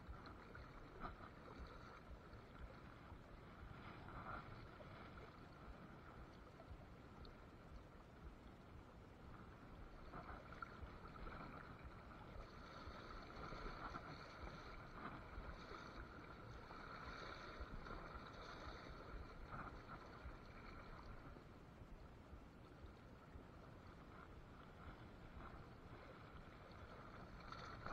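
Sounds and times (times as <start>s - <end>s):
river water flowing: 0.0s - 27.9s.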